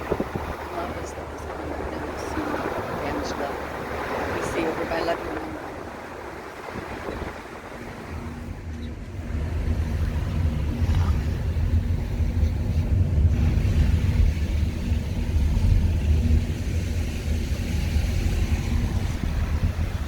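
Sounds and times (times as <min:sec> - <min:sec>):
road and wind rumble: 0:00.0 - 0:20.0
wind buffeting microphone: 0:00.0 - 0:20.0.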